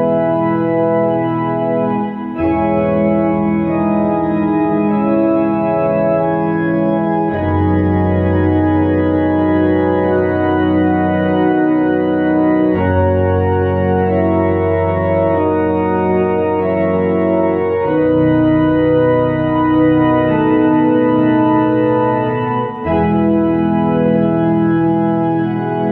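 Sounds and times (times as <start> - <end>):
electronic organ playing a hymn: 0.0 - 25.9.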